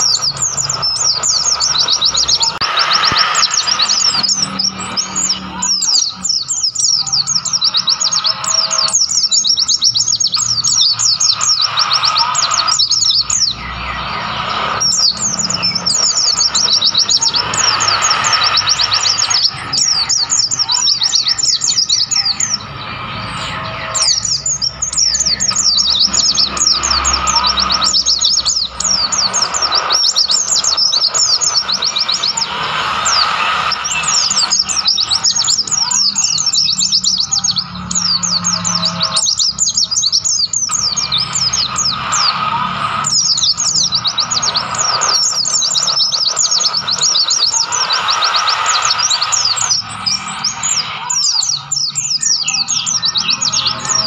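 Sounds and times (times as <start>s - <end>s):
birds twittering: 0.0s - 54.0s.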